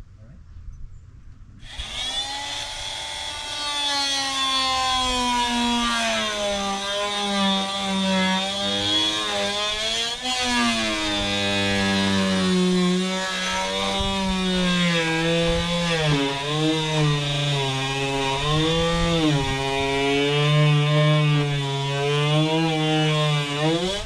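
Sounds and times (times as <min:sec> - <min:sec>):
power tool motor running: 0:01.6 - 0:24.0.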